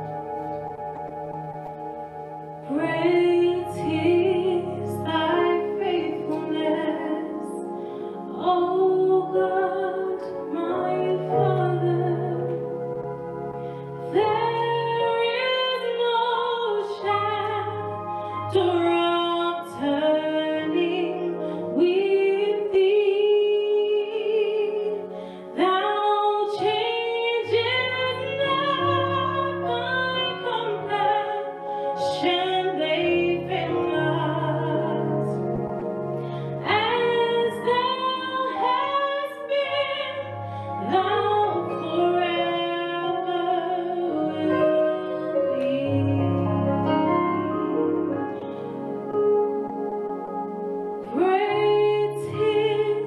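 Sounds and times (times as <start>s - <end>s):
instrumental accompaniment: 0.0s - 53.0s
woman singing: 2.6s - 12.8s, 14.1s - 35.6s, 36.4s - 47.5s, 51.0s - 53.0s.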